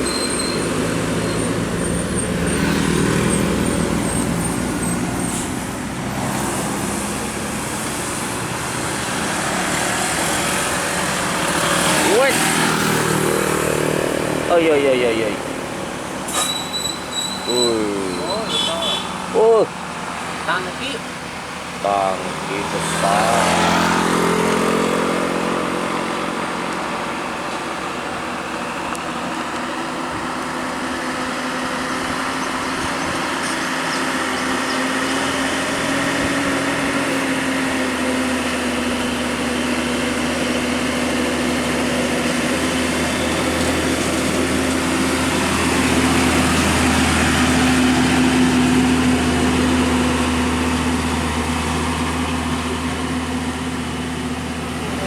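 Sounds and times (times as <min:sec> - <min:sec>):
heavy vehicle engine running: 0:00.0 - 0:55.0
hiss of passing traffic: 0:00.0 - 0:55.0.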